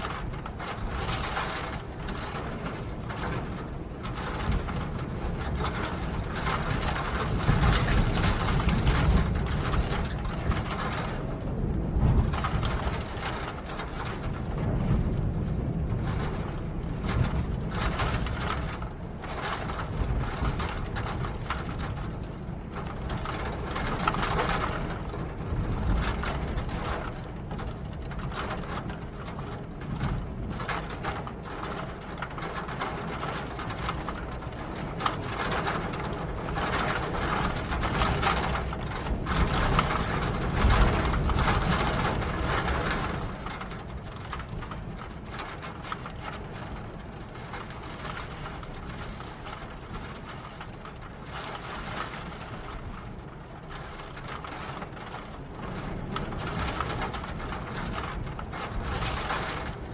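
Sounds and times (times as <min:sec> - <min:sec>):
constant low rumble: 0:00.0 - 0:59.9
rain patter: 0:00.0 - 0:59.9.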